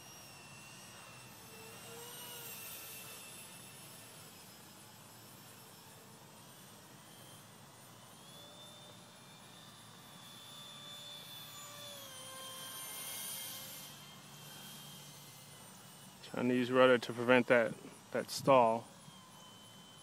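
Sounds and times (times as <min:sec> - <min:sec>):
electric ducted fan jet whining: 0:00.0 - 0:20.0.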